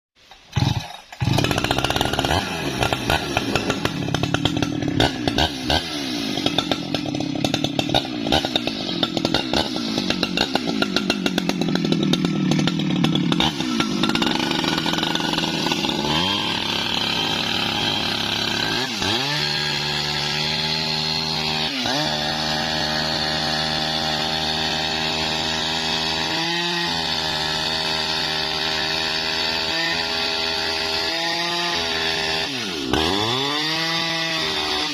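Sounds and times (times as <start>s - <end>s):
chainsaw cutting log: 0.2s - 34.9s.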